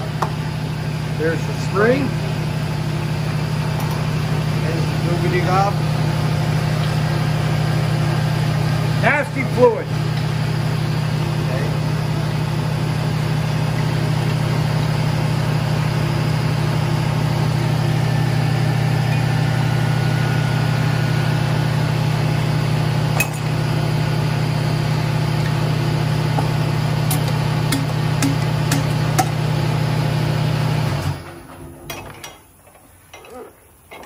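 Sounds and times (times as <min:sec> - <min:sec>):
machine humming: 0:00.0 - 0:32.0.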